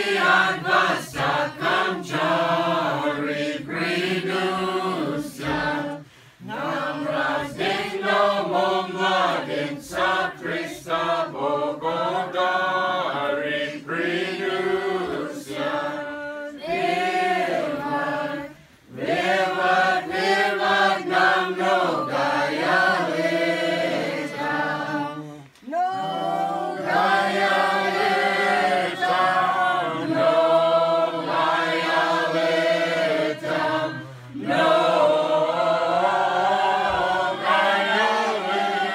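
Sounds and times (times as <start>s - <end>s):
group singing unaccompanied carol: 0.0s - 38.9s.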